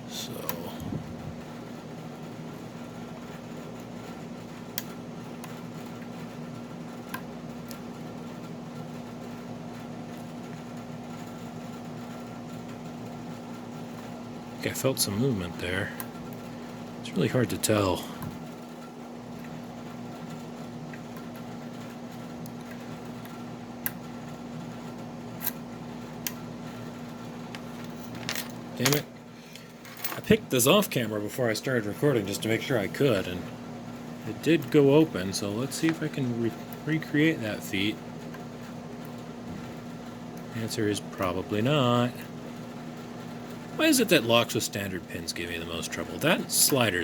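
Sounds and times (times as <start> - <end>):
low fan-like hum: 0.0 - 47.0.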